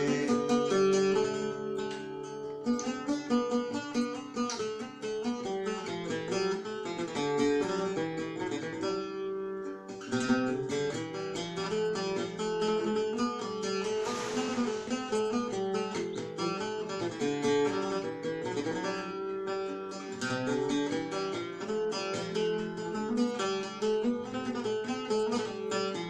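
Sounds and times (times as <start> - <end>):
plucked lute melody: 0.0 - 26.0.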